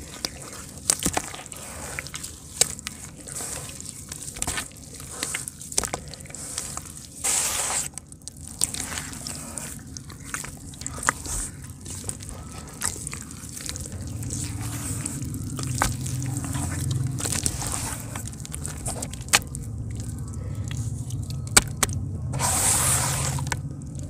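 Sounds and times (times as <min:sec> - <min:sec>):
hands squelching wet mud: 0:00.0 - 0:24.0
mud sloshing: 0:00.0 - 0:24.0.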